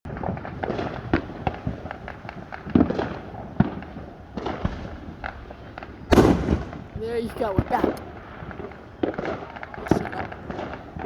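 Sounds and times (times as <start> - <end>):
fireworks crackling and popping: 0.1 - 11.0
heavy firework bangs: 0.1 - 11.0.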